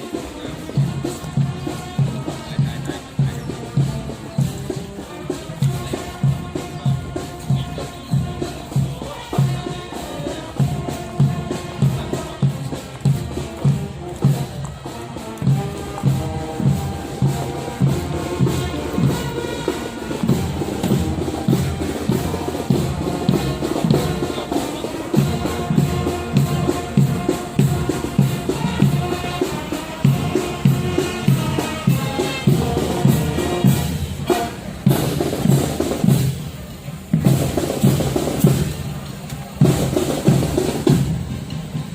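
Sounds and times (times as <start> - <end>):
steady drum beat: 0.0 - 41.9.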